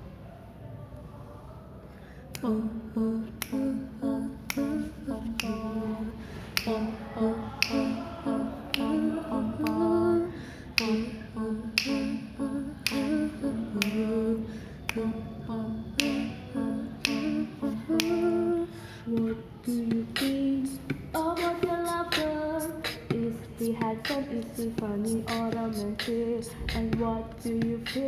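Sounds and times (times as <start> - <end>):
voices singing a cappella: 1.4 - 28.0
finger snaps: 2.2 - 2.6, 3.2 - 3.8, 4.4 - 10.0, 10.7 - 15.2, 15.8 - 18.5, 19.1 - 28.0.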